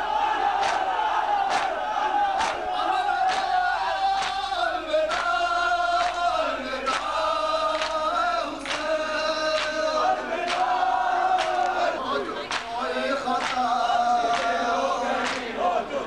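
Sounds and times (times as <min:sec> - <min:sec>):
male crowd chanting in unison: 0:00.0 - 0:16.0.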